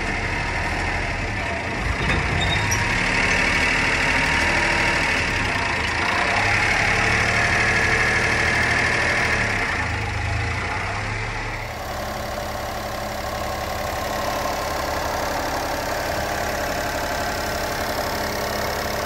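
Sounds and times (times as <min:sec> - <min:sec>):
small truck engine idling: 0:00.0 - 0:19.0.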